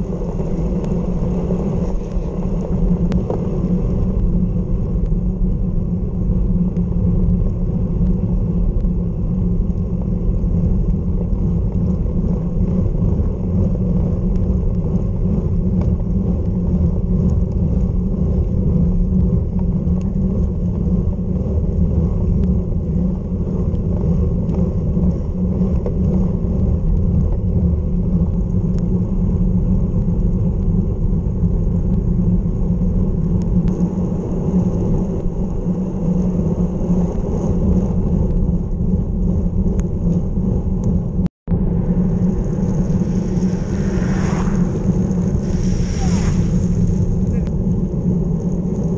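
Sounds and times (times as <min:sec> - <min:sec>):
tyre noise on wet road: 0:00.0 - 0:48.9
wind rumble on microphone: 0:00.0 - 0:48.9.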